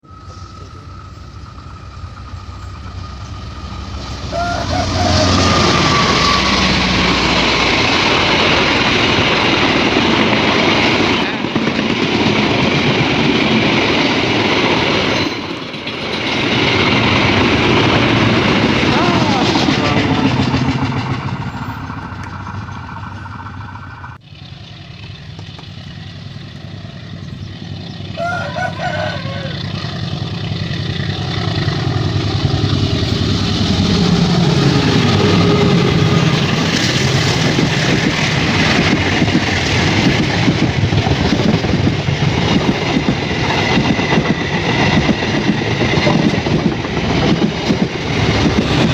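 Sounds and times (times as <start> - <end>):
diesel train engine rumble: 0.0 - 48.9
train wheels rushing on rails: 0.0 - 48.9.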